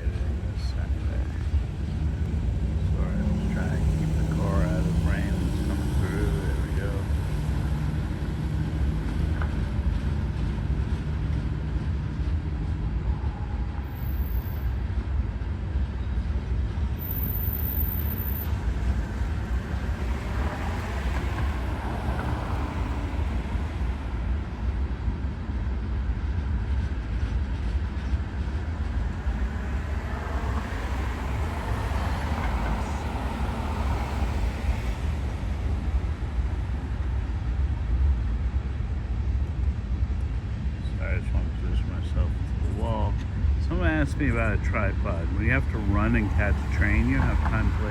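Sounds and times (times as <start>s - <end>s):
diesel locomotive drone: 0.0s - 47.9s
freight train rolling: 0.0s - 47.9s.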